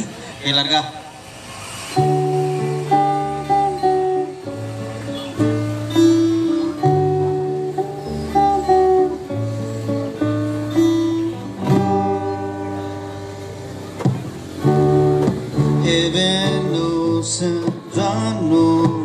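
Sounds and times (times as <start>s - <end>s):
guitar chords ringing: 1.9s - 19.0s
bass guitar notes: 2.0s - 19.0s
rock band playing: 2.0s - 19.0s.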